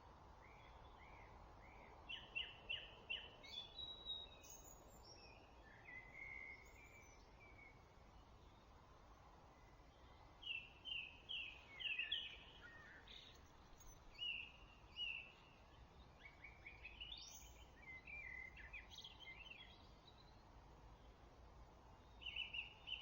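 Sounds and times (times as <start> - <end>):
faint steady hiss: 0.0 - 23.0
songbirds chirping: 0.0 - 23.0.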